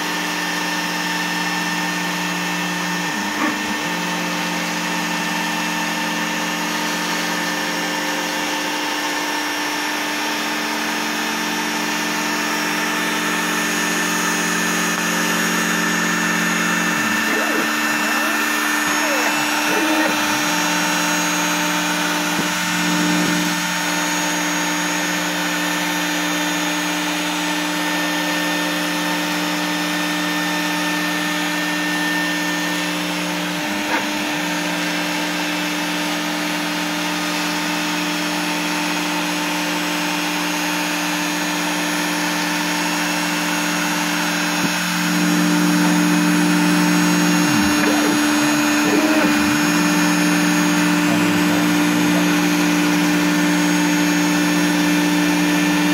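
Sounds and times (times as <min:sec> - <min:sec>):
vacuum hum: 0:00.0 - 0:27.2, 0:31.0 - 0:35.5, 0:42.3 - 0:55.9
router motor whine: 0:00.0 - 0:55.9.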